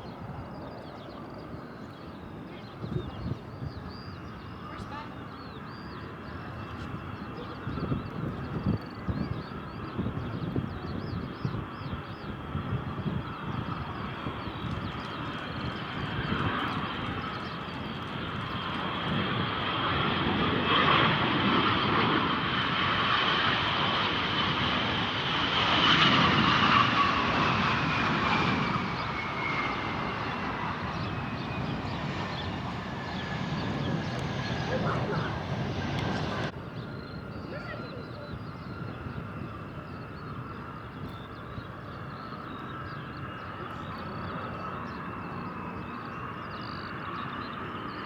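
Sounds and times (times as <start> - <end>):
jet aircraft passing overhead: 0.0 - 48.0.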